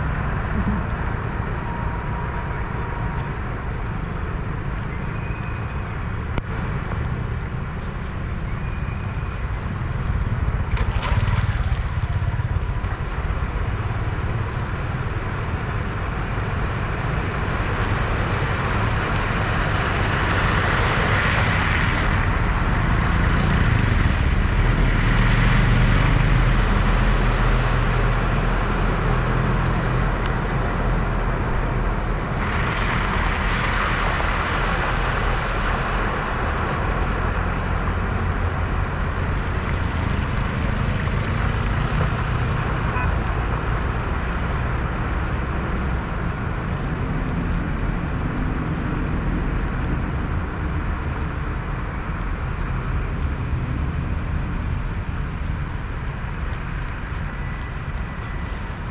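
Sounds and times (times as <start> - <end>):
low engine and road rumble: 0.0 - 58.9
water surging: 9.0 - 58.9.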